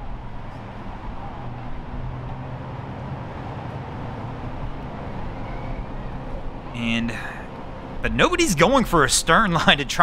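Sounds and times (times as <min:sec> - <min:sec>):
low engine-like hum: 0:00.0 - 0:10.0.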